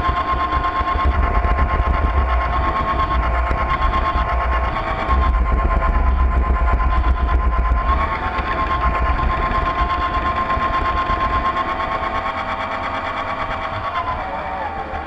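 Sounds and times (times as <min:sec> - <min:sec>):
low rumble: 0:00.0 - 0:15.0
model boat machinery whine: 0:00.0 - 0:15.0.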